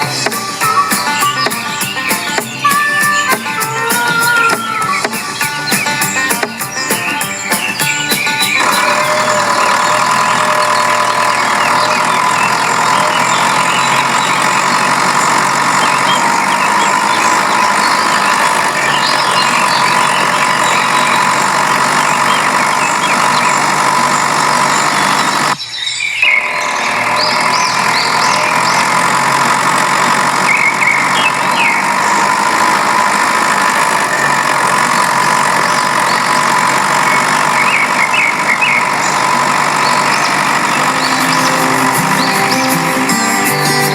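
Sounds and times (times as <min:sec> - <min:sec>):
motor running with whine: 0:00.0 - 0:43.9.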